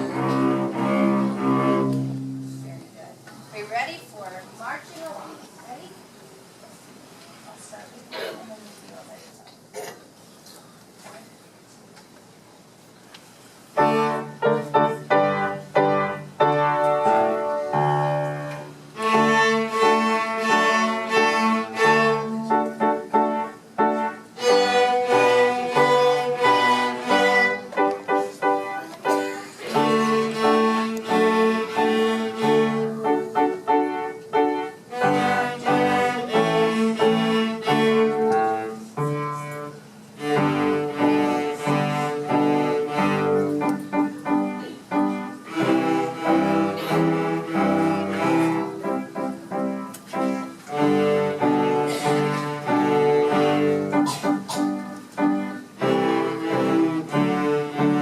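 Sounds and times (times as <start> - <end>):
cellos playing a simple tune: 0.0 - 3.1, 13.8 - 58.0
piano accompaniment: 0.0 - 3.7, 13.7 - 58.0.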